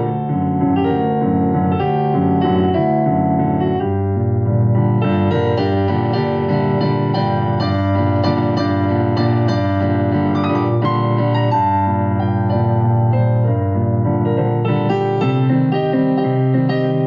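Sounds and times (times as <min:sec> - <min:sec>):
soft electric piano music: 0:00.0 - 0:17.0.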